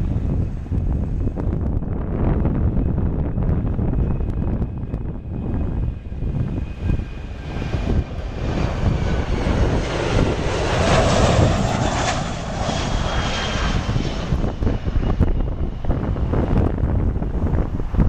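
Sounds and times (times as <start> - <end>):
jet airliner roaring overhead: 0.0 - 18.0.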